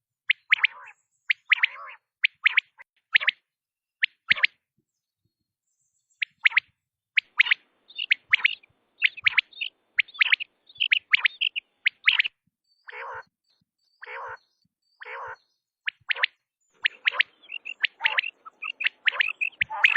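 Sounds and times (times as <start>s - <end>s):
quail calling: 0.3s - 3.4s, 6.3s - 13.3s, 14.0s - 19.9s.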